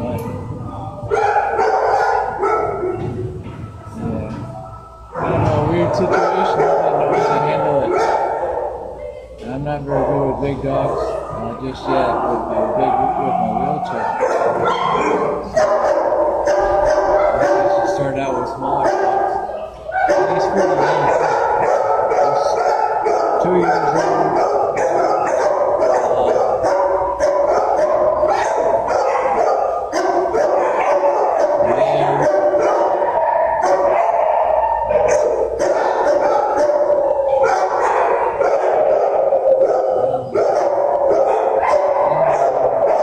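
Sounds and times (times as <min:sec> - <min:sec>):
dogs barking and howling: 0:00.0 - 0:43.0.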